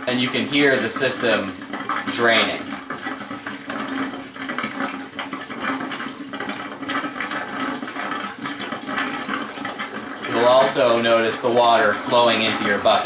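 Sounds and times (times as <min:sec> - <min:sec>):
water gurgling and rushing: 0:00.0 - 0:13.0.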